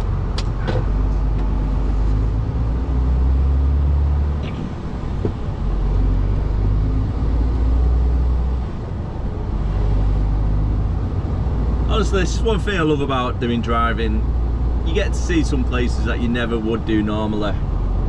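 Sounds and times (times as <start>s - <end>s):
lorry diesel engine rumble: 0.0s - 18.0s.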